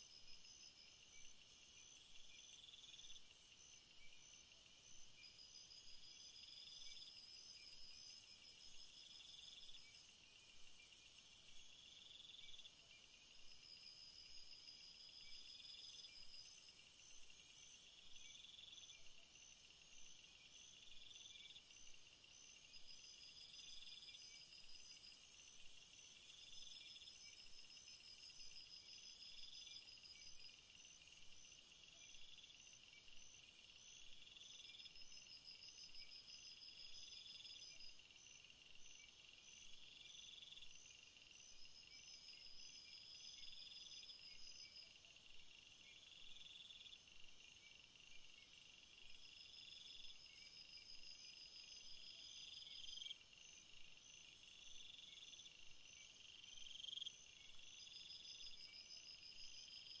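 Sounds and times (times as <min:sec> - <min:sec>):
insects and frogs chirping: 0:00.0 - 1:00.0.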